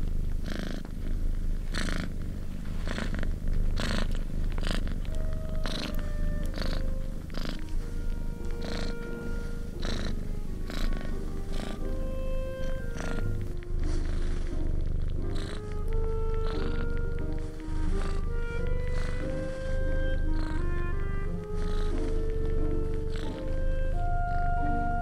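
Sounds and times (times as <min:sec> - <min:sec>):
cat purring: 0:00.0 - 0:25.0
soft background music: 0:00.0 - 0:25.0.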